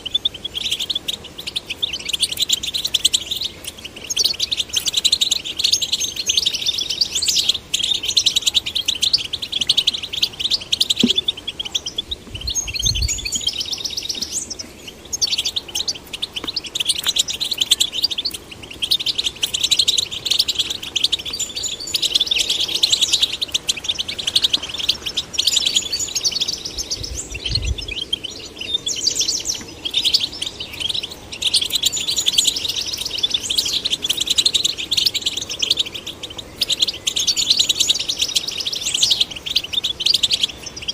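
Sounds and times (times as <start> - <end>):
finch singing: 0.0 - 40.9.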